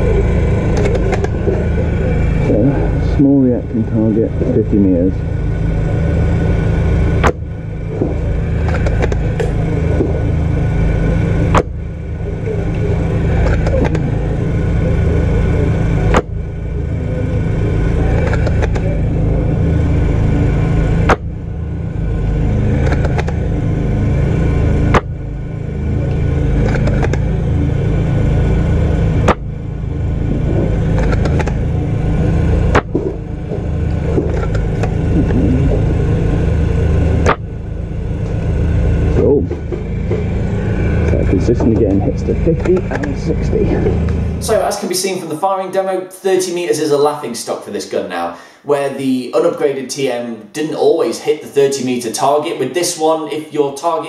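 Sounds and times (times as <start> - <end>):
low rumble: 0.0 - 44.9.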